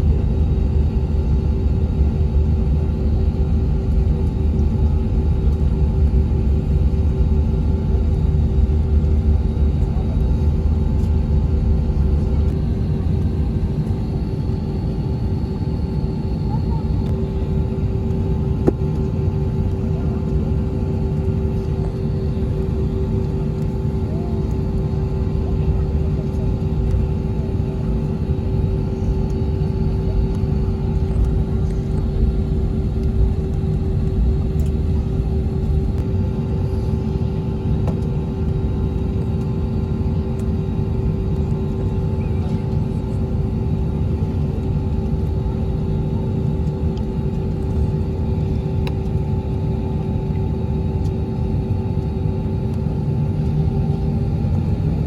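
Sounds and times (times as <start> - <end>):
aircraft cabin rumble and hum: 0.0 - 55.0.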